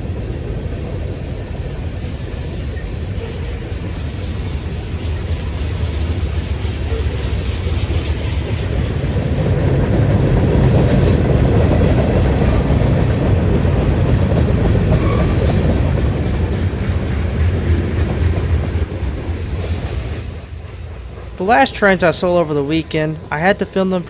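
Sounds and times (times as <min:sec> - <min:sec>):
freight train rolling on rails: 0:00.0 - 0:24.0.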